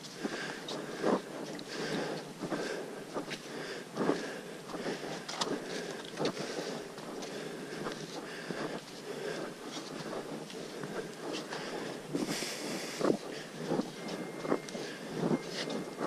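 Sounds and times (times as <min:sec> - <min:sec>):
footsteps on muddy dirt trail: 0:00.0 - 0:16.0
rustling of air and clothing: 0:00.0 - 0:16.0.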